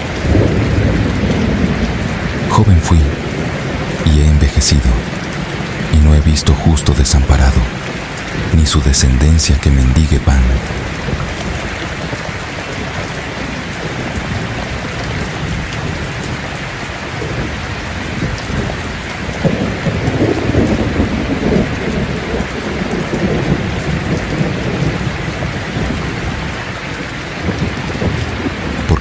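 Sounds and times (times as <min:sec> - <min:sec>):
heavy rain falling: 0:00.0 - 0:29.0
thunder rumbling: 0:00.0 - 0:29.0.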